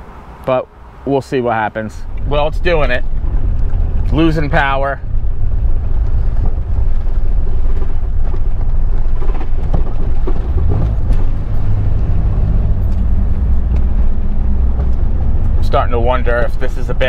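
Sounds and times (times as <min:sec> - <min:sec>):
car engine running at low revs: 0:00.0 - 0:17.0
road noise: 0:00.0 - 0:17.0.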